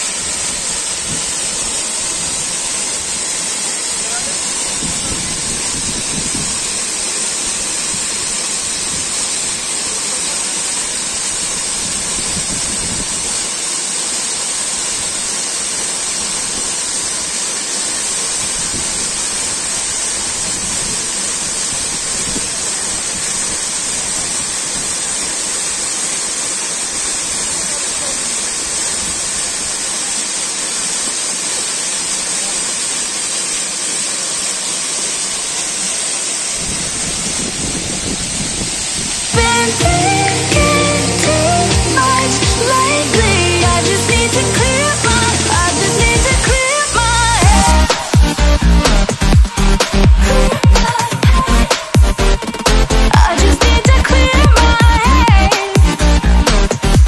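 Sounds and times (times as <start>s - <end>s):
waterfall splashing onto rocks: 0.0s - 52.6s.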